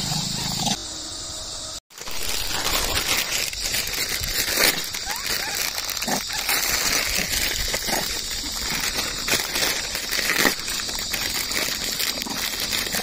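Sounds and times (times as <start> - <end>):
high-pitched hiss: 0.0 - 13.0
plastic packets crinkling: 1.9 - 13.0.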